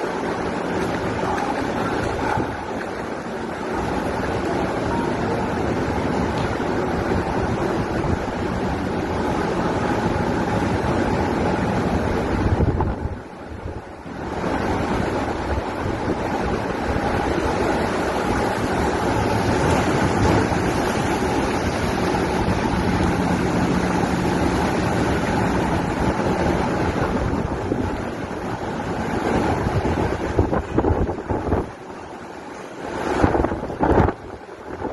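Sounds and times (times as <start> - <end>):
waves breaking against pier: 0.0 - 34.9
wind buffeting microphone: 0.0 - 34.9.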